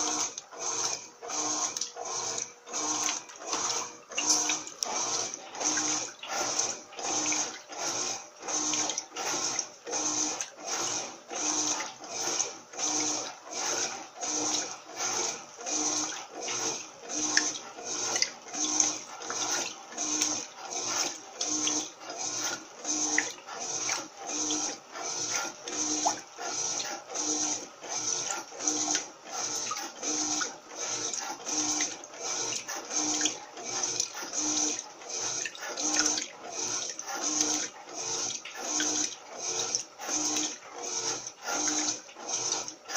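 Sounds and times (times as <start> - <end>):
motor hum: 0.0 - 42.9
washing machine sloshing laundry: 0.0 - 42.9.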